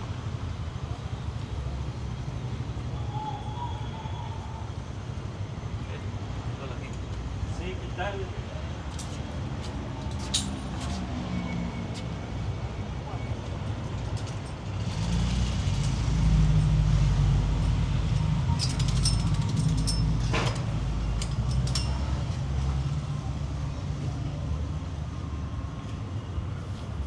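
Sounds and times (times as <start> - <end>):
heavy vehicle engine rumble: 0.0 - 27.0.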